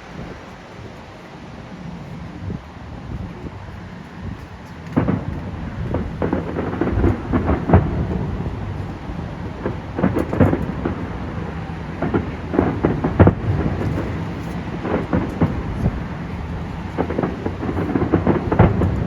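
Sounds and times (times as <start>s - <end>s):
fireworks exploding: 3.2s - 19.0s.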